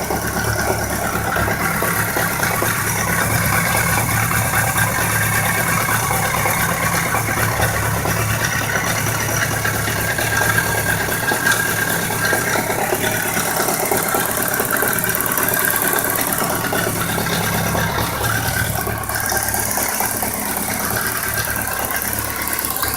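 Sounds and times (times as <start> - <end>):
motorcycle engine idling: 0.0 - 22.9
rapid rattling tick and knock: 0.0 - 22.9.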